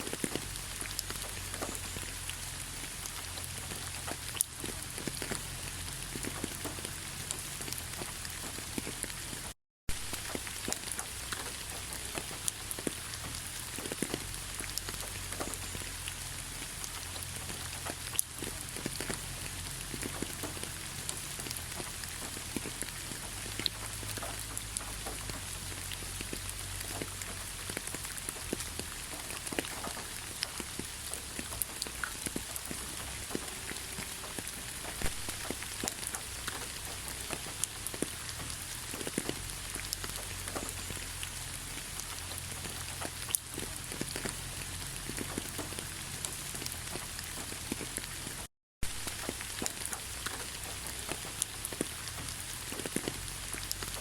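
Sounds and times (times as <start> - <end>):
raindrops ticking: 0.0 - 54.0
steady rain hiss: 0.0 - 54.0.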